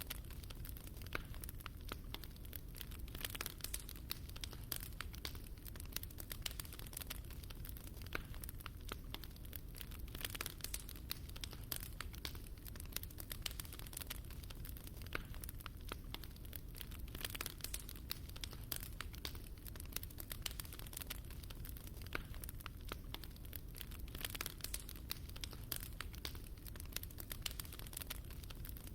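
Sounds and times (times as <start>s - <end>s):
fire crackling in a fireplace: 0.0s - 28.9s.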